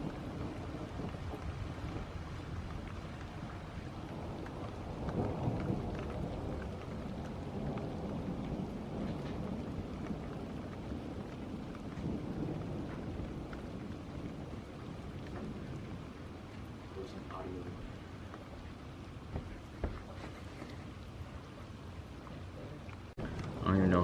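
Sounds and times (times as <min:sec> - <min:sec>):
low rumble of thunder: 0:00.0 - 0:24.0
steady rain falling: 0:00.0 - 0:24.0.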